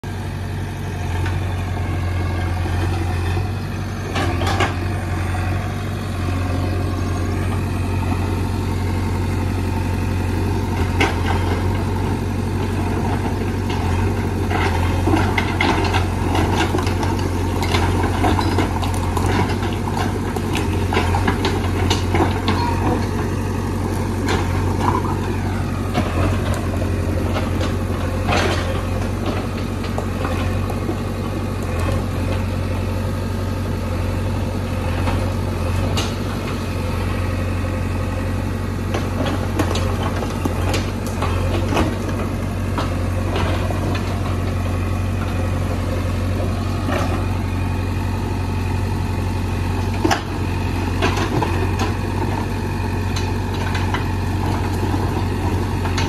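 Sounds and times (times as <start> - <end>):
diesel engine running: 0.0 - 56.0
backhoe digging into rock: 1.2 - 32.6, 39.0 - 56.0.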